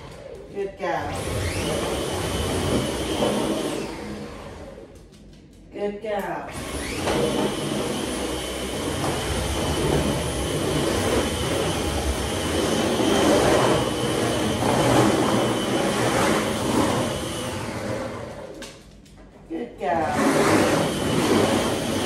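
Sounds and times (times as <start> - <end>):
vacuum cleaner motor whine: 0.0 - 5.0, 6.5 - 18.8, 20.0 - 22.0.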